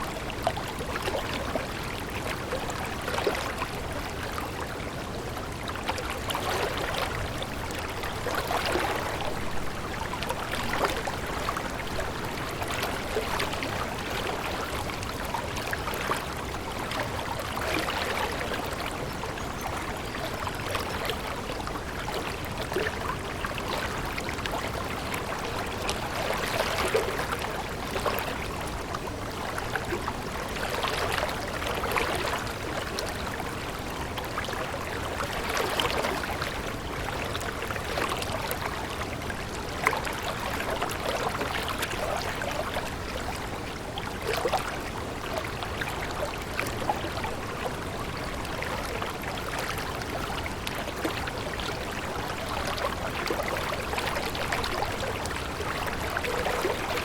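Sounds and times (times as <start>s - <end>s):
small splashes and trickles: 0.0s - 57.0s
stream of running water: 0.0s - 57.0s.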